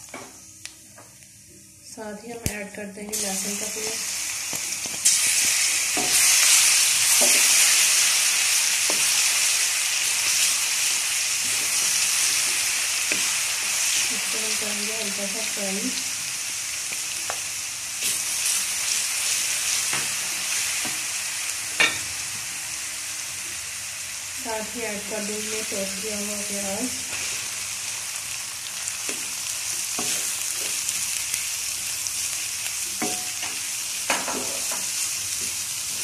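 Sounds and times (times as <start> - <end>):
spices sizzling in hot oil: 1.4 - 36.0.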